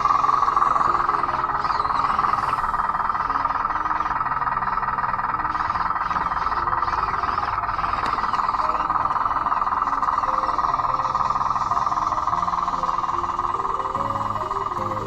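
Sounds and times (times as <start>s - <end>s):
electric motors and gearboxes: 0.0s - 15.0s.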